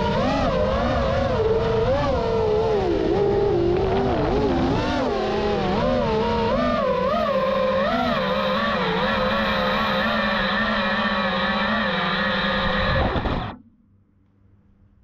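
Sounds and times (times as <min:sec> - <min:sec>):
quadcopter motors whining: 0:00.0 - 0:13.6.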